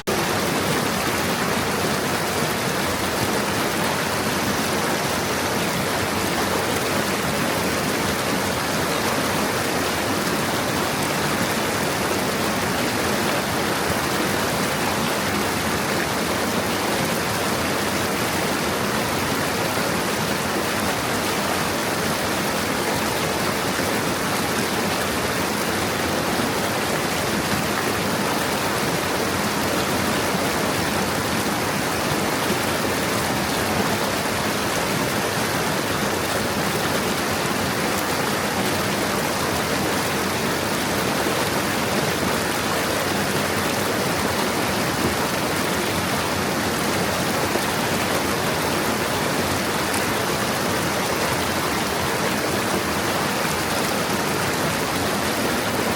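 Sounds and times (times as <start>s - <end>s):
stream babbling over stones: 0.0s - 55.9s.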